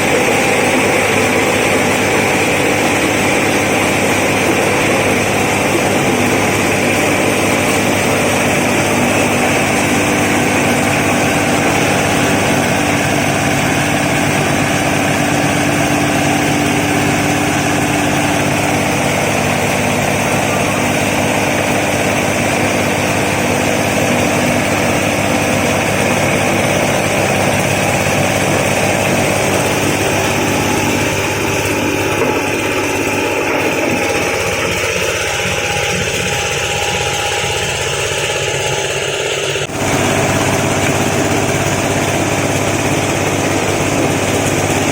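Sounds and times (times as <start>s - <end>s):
grinding mill humming: 0.0s - 44.9s.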